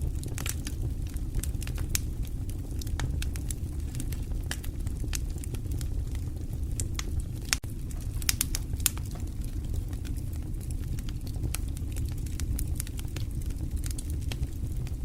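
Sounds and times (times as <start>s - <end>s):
low fire rumble: 0.0s - 15.0s
wood fire pops and snaps: 0.0s - 15.0s.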